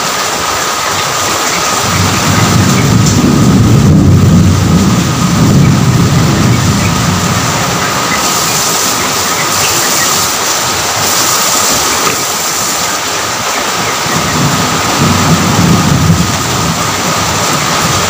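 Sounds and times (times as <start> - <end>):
heavy rain: 0.0 - 18.0
rumble of thunder: 1.2 - 11.2, 13.0 - 18.0.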